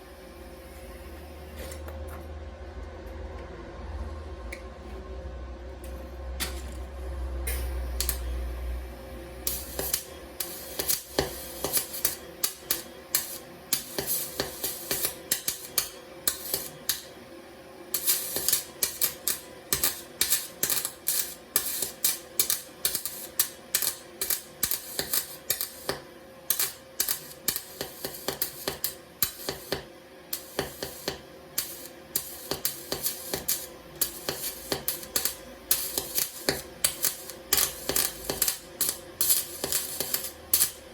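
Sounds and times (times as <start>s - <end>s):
welder arc crackling and popping: 0.0s - 2.0s, 5.8s - 40.9s
steady hum: 0.0s - 40.9s.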